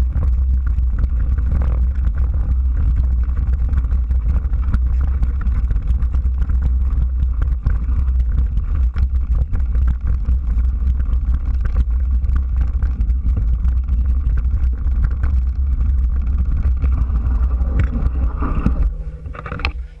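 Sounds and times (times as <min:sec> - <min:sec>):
mountain bike rumbling and rattling: 0:00.0 - 0:20.0
wind buffeting microphone: 0:00.0 - 0:20.0.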